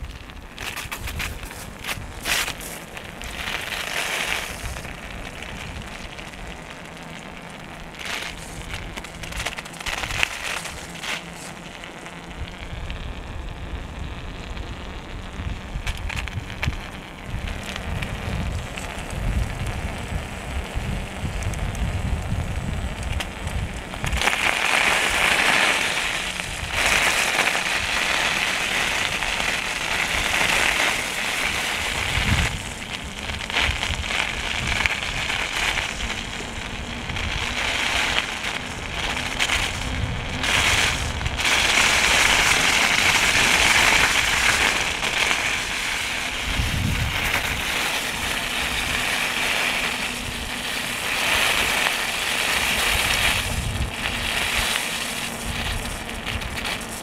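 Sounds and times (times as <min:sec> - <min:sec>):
tyres crunching on packed snow: 0:00.0 - 0:12.4, 0:15.8 - 0:57.0
wind rumble on microphone: 0:00.0 - 0:57.0.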